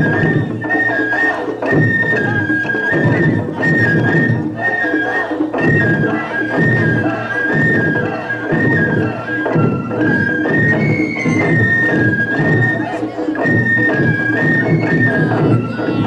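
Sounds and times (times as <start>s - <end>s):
high flute melody: 0.0s - 16.0s
taiko drums beaten: 0.0s - 16.0s.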